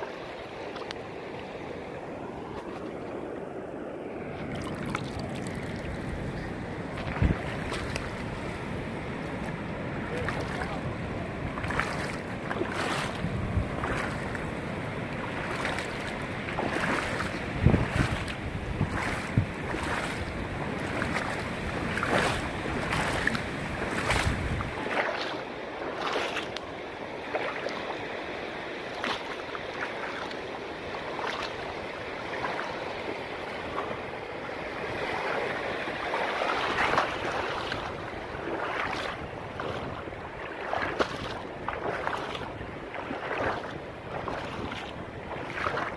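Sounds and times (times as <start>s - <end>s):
surf splashing over reef: 0.0s - 45.9s
wind rumble on microphone: 0.0s - 45.9s.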